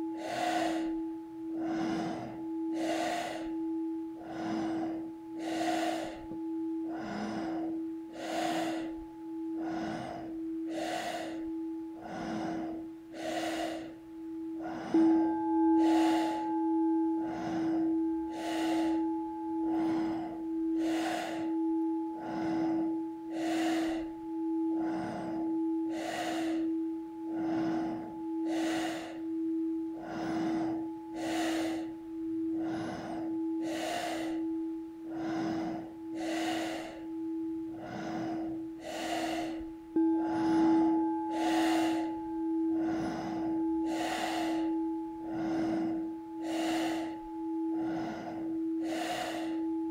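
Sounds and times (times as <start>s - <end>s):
forceful breathing through nose: 0.0s - 49.9s
singing bowl ringing: 0.0s - 49.9s.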